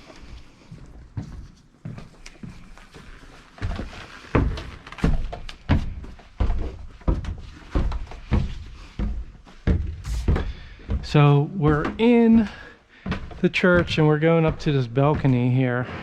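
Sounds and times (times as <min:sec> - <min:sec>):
heavy footsteps on stairs: 0:00.0 - 0:16.0.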